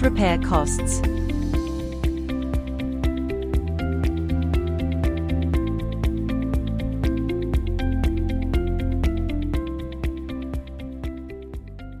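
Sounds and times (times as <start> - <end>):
background music with plucked notes: 0.0 - 12.0.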